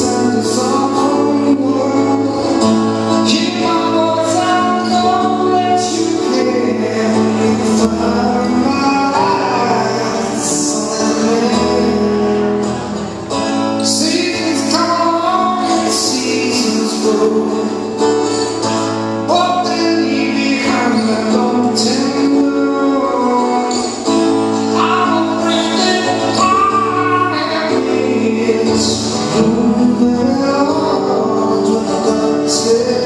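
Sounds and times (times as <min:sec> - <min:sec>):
acoustic guitar: 0:00.0 - 0:33.0
man singing: 0:00.0 - 0:33.0.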